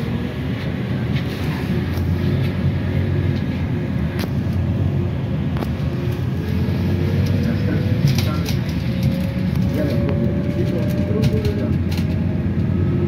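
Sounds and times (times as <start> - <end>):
vehicle interior drone: 0.0 - 13.0.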